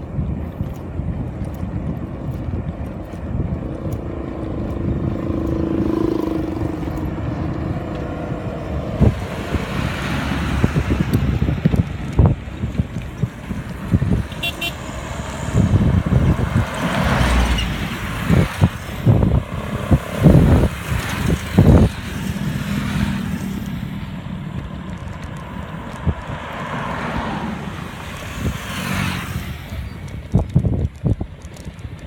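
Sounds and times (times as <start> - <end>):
motor vehicles passing: 0.0 - 32.0
wind buffeting microphone: 0.0 - 32.0.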